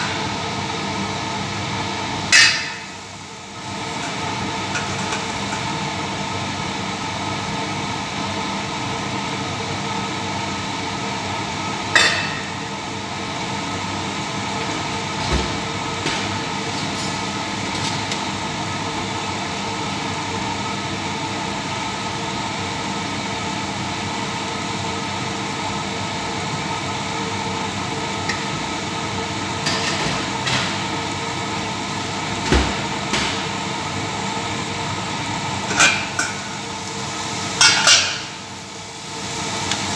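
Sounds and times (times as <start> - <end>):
chicken frying in covered pan: 0.0 - 39.9.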